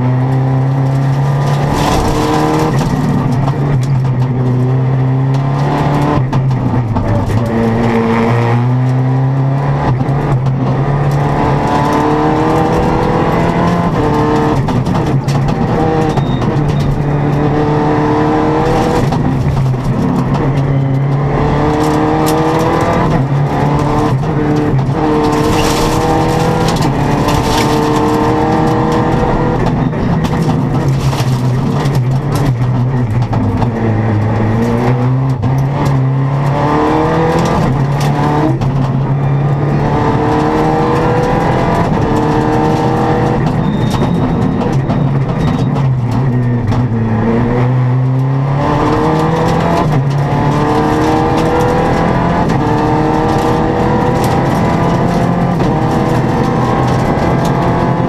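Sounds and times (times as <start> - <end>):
rally car engine revving: 0.0 - 58.0
tyre and road noise: 0.0 - 58.0.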